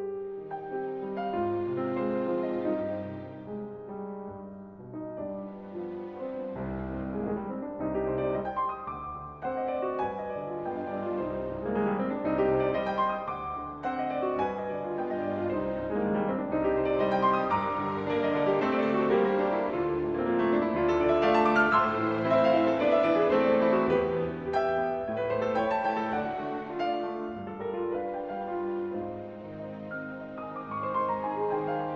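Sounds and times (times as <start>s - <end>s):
slow piano music: 0.0s - 31.9s.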